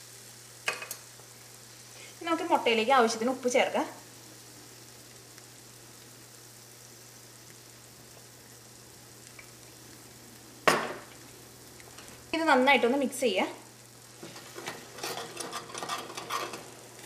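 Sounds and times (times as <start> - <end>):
food frying with faint sizzle: 0.0 - 17.0.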